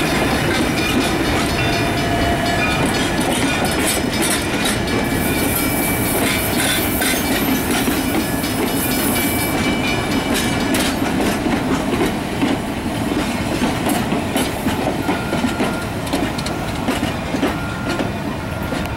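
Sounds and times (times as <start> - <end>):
railroad cars rumbling: 0.0 - 18.9
train wheels clicking over rail joints: 0.0 - 18.9.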